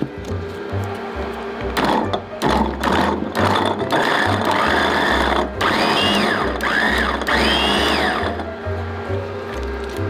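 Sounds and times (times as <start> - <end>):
electric food chopper whirring: 0.0 - 10.0.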